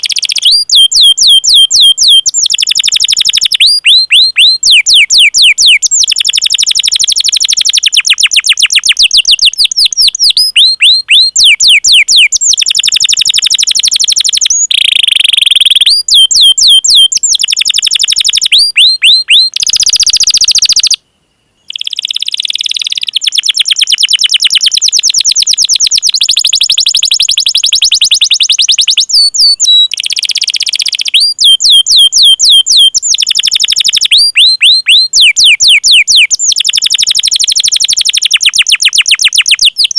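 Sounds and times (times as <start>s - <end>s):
canary singing chirps: 0.0s - 21.0s, 21.6s - 39.9s.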